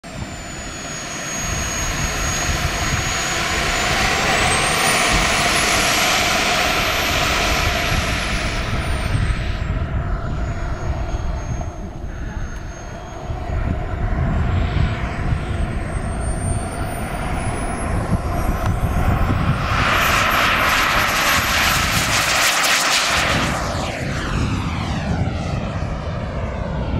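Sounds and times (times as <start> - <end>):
steady rushing noise: 0.0 - 25.8
model jet engine whine: 0.0 - 26.9.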